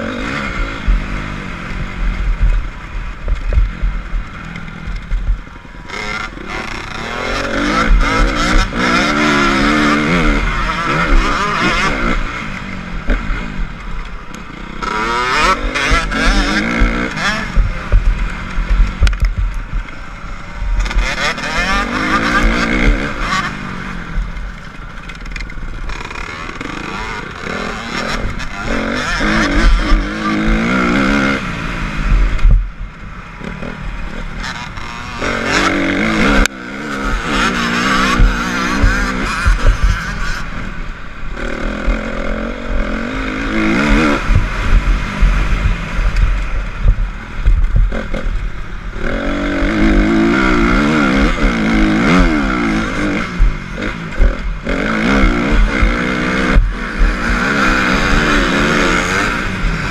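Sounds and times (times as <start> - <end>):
motorcycle engine revving hard: 0.0 - 25.0, 25.7 - 32.8, 33.4 - 59.9.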